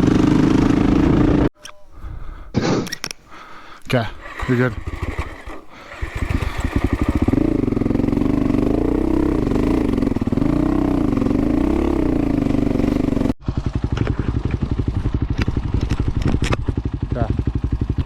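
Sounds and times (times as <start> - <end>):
motorcycle engine idling and revving: 0.0 - 1.5, 3.9 - 18.0.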